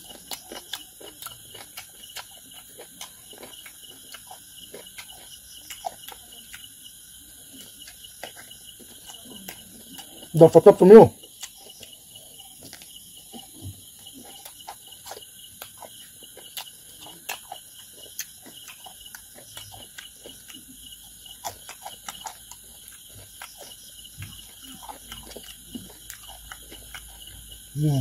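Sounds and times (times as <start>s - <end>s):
chewing food with mouth clicks: 0.0s - 28.0s.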